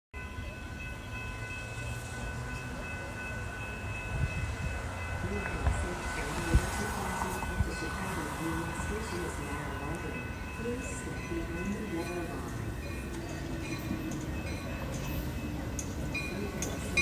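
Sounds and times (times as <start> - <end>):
train rumbling by: 0.2 - 17.0.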